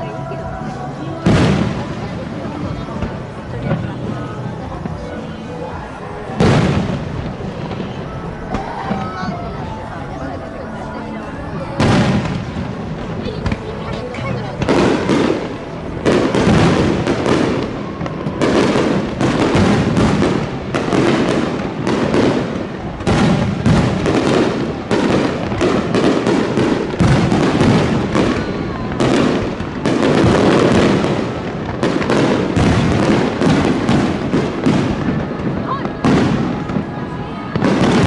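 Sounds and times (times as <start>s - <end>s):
fireworks booming and crackling: 0.0s - 38.0s.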